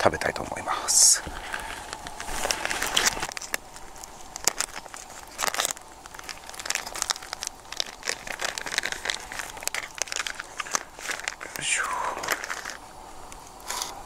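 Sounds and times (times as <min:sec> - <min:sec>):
plastic packaging crinkling: 0:01.2 - 0:14.0.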